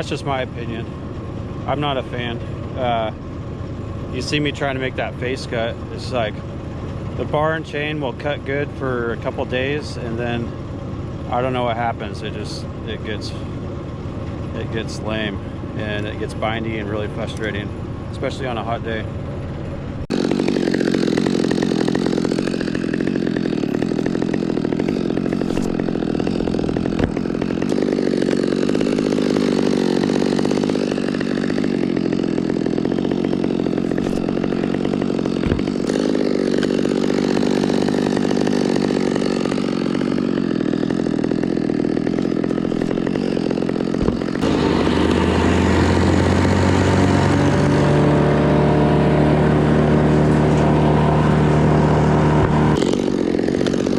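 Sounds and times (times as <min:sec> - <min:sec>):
engine running loudly: 0:00.0 - 0:53.9.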